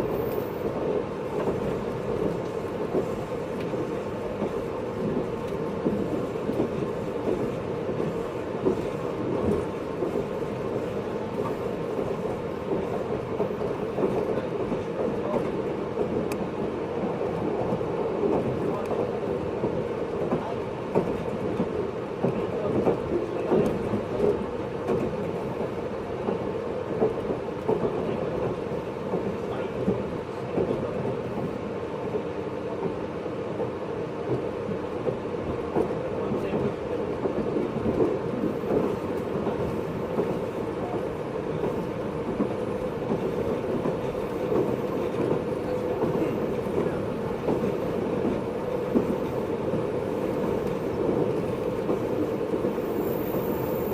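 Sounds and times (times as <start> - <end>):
train wheels and motors rumbling: 0.0 - 53.9.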